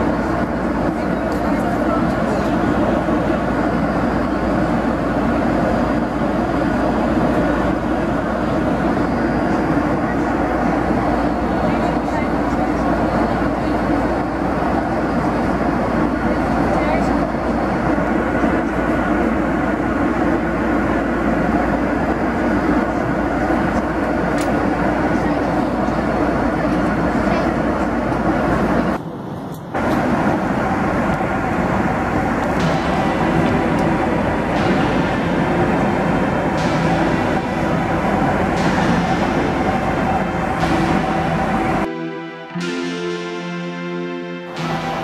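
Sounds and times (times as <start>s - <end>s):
airplane cabin engine drone: 0.0s - 45.0s.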